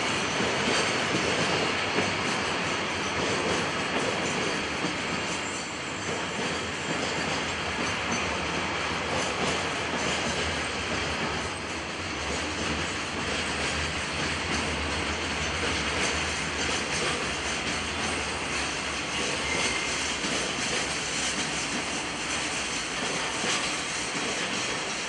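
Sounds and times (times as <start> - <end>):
steel wheels running on rails: 0.0 - 25.0.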